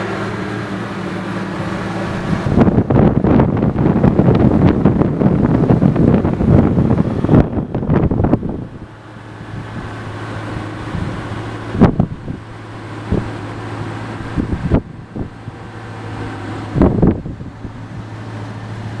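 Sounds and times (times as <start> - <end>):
engine idling with steady hum: 0.0 - 19.0
engine revving bursts: 0.0 - 19.0.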